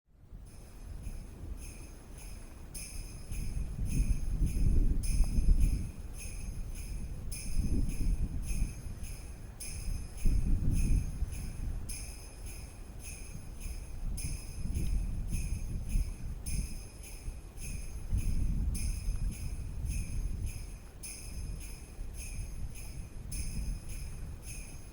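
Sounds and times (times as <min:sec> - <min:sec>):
sleigh bells jingling: 0:00.4 - 0:24.9.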